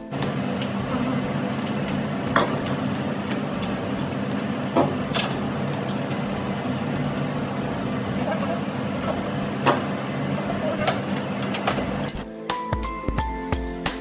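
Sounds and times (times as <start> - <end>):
machine running hum: 0.0 - 12.2
sharp clicks: 0.0 - 12.2.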